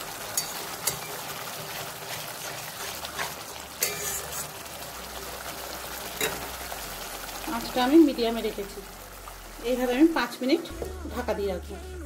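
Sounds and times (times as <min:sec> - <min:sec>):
paste sizzling in hot oil: 0:00.0 - 0:11.6.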